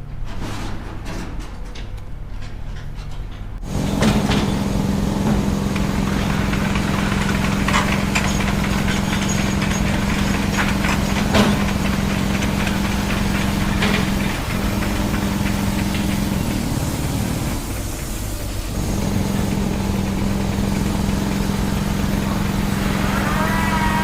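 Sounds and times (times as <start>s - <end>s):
knocks and clanks: 0.0s - 24.0s
bulldozer diesel engine running: 3.6s - 24.0s.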